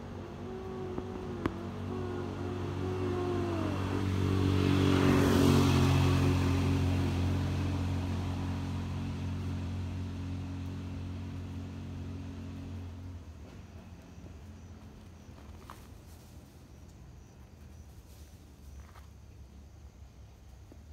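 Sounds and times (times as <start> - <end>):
vehicle engine passing by: 0.0 - 18.8.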